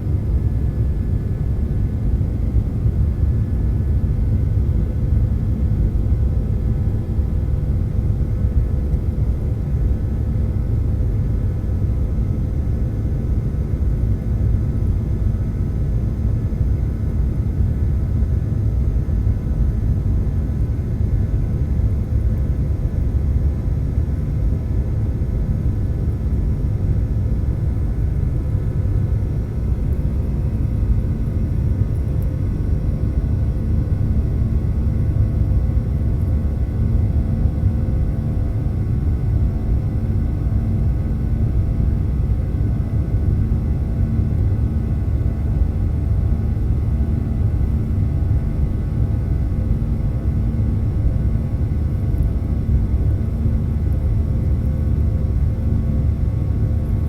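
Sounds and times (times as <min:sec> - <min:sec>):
airliner cabin engine rumble: 0:00.0 - 0:57.0
faint engine whine: 0:00.0 - 0:57.0.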